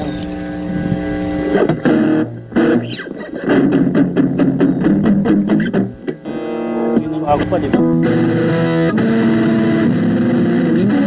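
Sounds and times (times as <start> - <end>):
distorted electric guitar strums: 0.0 - 11.0.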